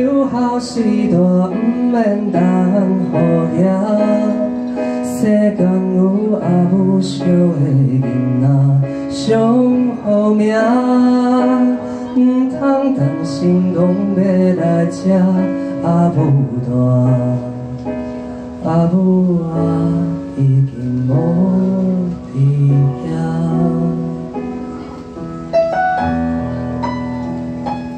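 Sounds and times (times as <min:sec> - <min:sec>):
man singing into a microphone: 0:00.0 - 0:24.6
keyboard playing: 0:00.0 - 0:27.9.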